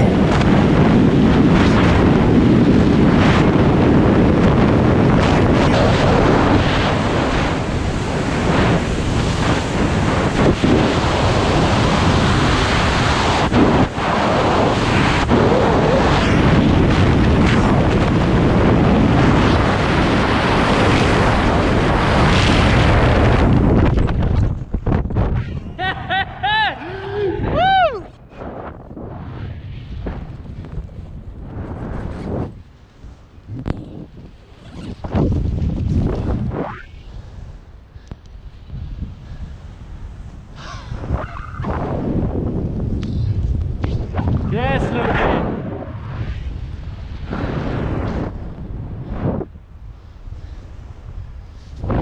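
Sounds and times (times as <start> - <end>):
wind rushing over microphone: 0.0 - 52.0.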